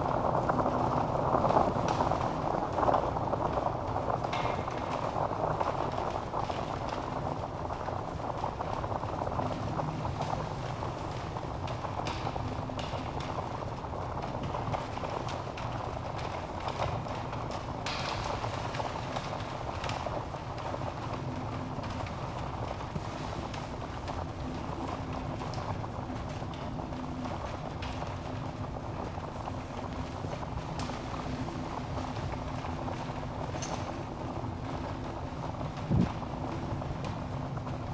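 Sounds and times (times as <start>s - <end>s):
logs burning and crackling: 0.0s - 37.9s.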